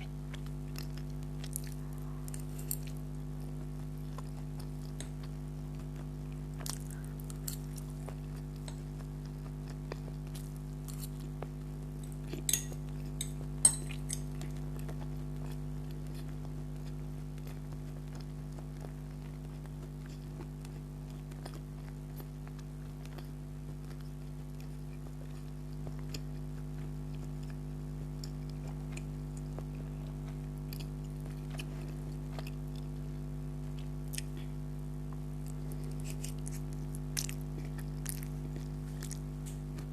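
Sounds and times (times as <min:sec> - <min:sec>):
close chewing: 0:00.0 - 0:39.9
steady low hum: 0:00.0 - 0:39.9.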